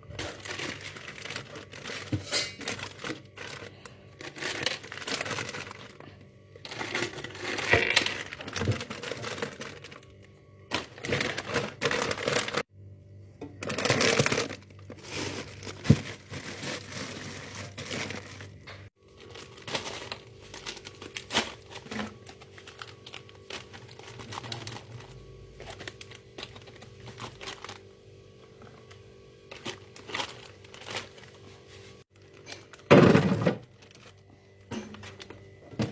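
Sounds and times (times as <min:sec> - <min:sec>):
packaging crinkling and rustling: 0:00.0 - 0:12.7, 0:13.6 - 0:35.9.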